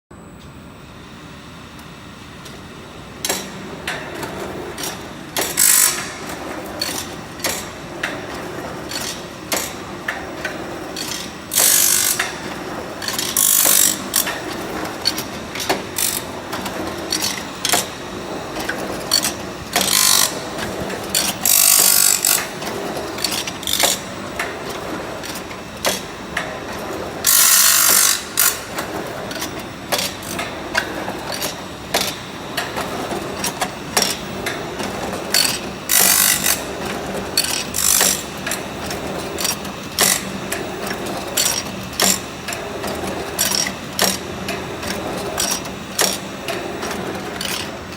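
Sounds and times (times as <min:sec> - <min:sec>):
grinding machine hum: 0:02.7 - 0:47.9
rapid mechanism clicks: 0:03.2 - 0:47.9.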